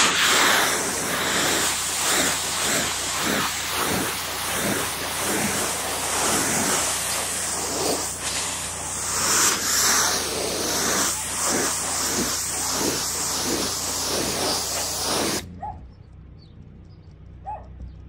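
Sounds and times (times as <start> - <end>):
hose spray on glass panels: 0.0 - 15.4.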